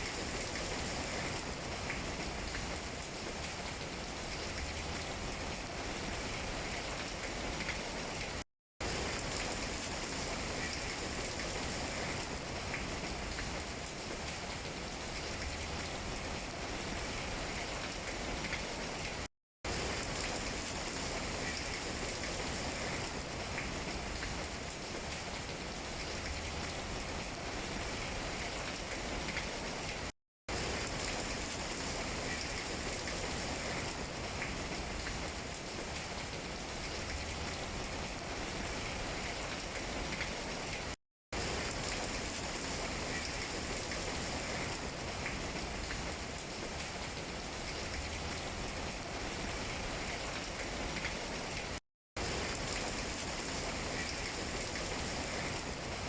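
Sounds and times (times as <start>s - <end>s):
rain on tree leaves: 0.0s - 56.0s.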